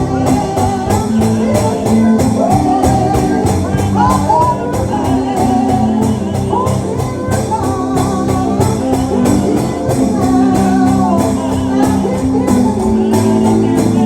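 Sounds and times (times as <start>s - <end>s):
person singing gospel: 0.0s - 14.0s
steady percussion beat: 0.0s - 14.0s.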